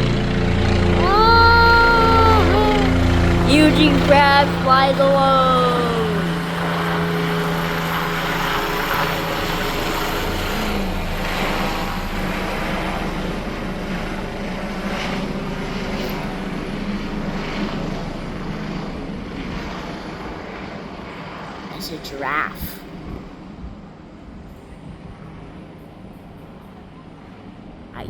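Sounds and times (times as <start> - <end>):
helicopter rotor and engine drone: 0.0 - 28.0.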